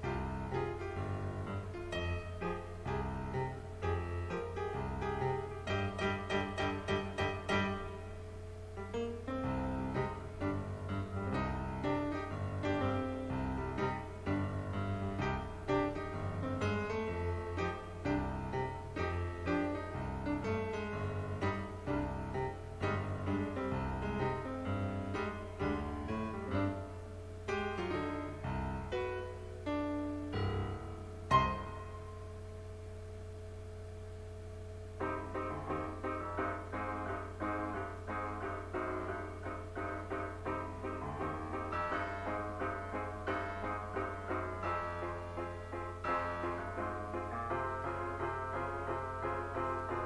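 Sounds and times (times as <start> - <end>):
solo piano music: 0.0 - 50.0
steady low hum: 0.0 - 50.0.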